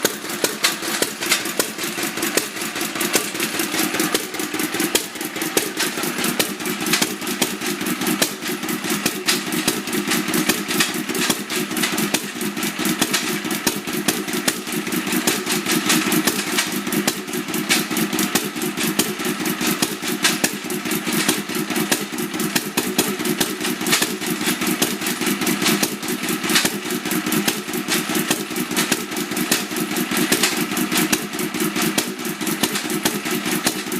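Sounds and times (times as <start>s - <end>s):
oil engine knocking clatter: 0.0s - 33.9s.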